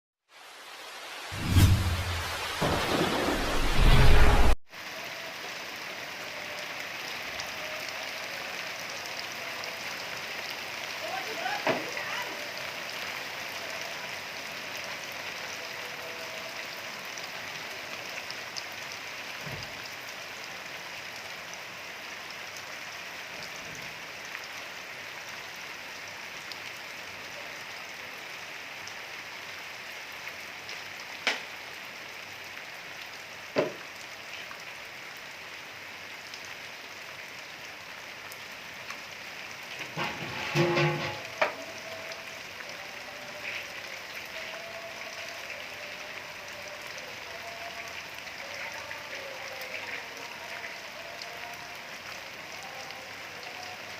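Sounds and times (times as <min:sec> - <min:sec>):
rain pattering on surfaces: 0:00.3 - 0:01.3, 0:02.2 - 0:03.8, 0:04.7 - 0:53.9.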